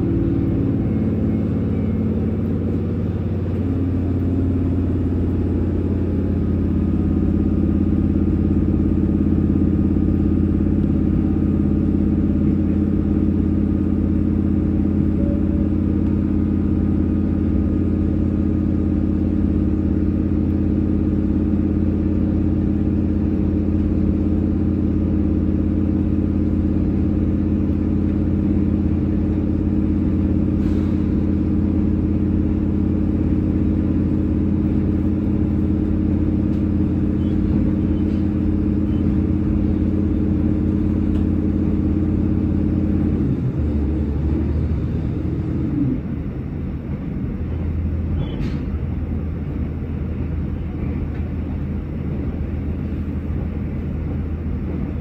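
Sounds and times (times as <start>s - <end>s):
train running drone: 0.0s - 55.0s.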